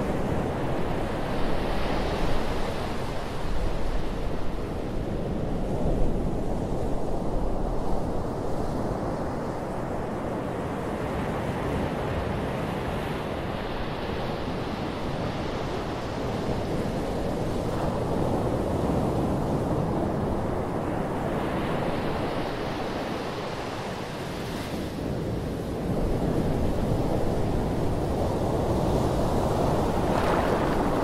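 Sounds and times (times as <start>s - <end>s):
small waves washing on beach: 0.0s - 31.0s.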